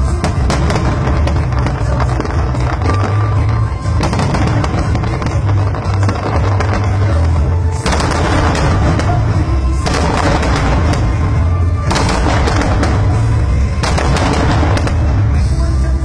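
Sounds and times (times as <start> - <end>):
fireworks bursting and crackling: 0.0 - 16.0
loud music: 0.0 - 16.0.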